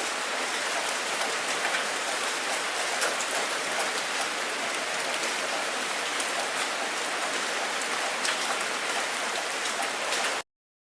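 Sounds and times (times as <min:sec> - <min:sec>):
steady rain falling: 0:00.0 - 0:10.4.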